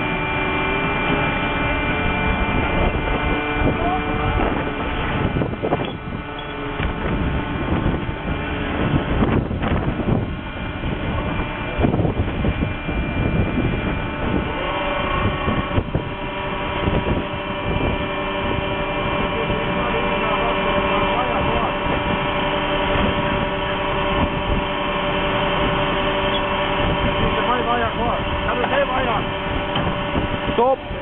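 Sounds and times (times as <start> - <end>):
boat engine running: 0.0 - 31.0
wind noise: 0.0 - 31.0.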